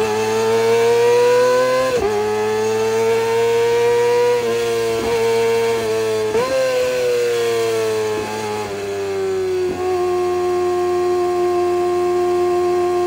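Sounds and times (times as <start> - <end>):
high-pitched motorcycle engine: 0.0 - 13.0.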